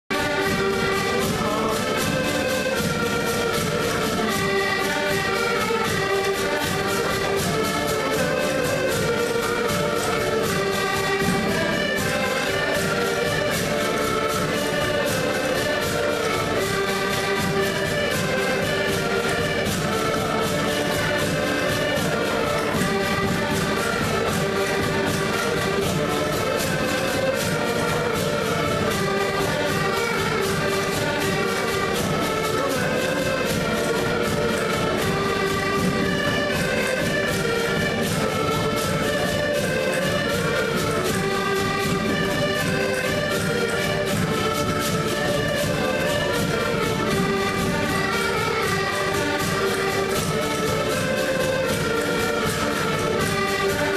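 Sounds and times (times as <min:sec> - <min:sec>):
button accordions playing: 0:00.0 - 0:53.9
plucked string instrument: 0:00.1 - 0:53.9.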